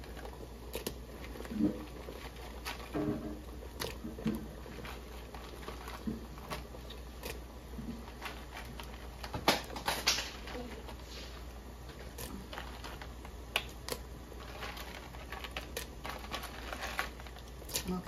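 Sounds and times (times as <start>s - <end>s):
wet squishy handling: 0.0s - 18.0s.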